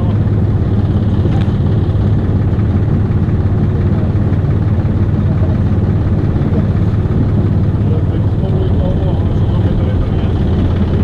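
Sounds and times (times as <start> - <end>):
engine drone with low hum: 0.0 - 11.0.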